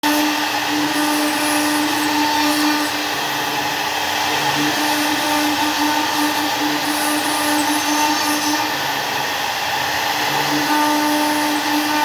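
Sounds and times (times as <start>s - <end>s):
hiss: 0.0s - 12.0s
router spindle humming: 0.0s - 12.0s.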